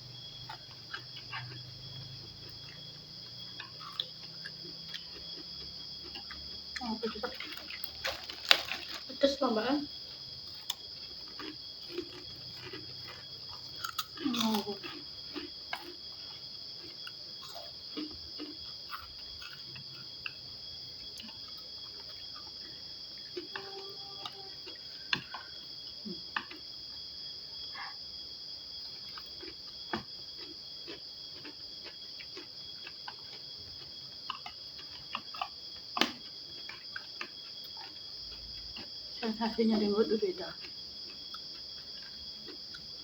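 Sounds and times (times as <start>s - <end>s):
crickets trilling: 0.0s - 43.0s
chewing: 0.3s - 9.1s, 10.0s - 26.8s, 28.8s - 39.9s, 40.5s - 43.0s.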